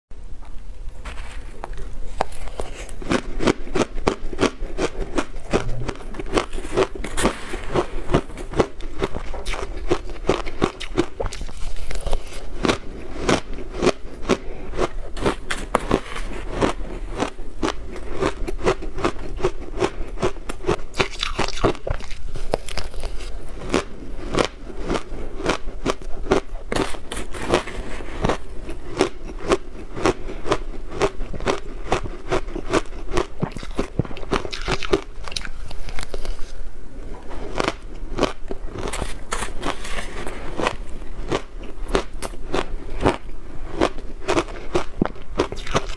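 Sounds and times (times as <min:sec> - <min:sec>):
ice crunching being chewed: 0:00.4 - 0:36.6, 0:37.4 - 0:45.9.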